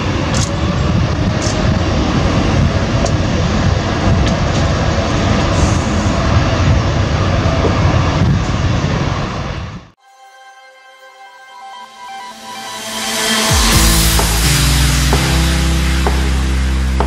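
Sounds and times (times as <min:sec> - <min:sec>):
jet engines running: 0:00.0 - 0:10.0, 0:11.6 - 0:17.0.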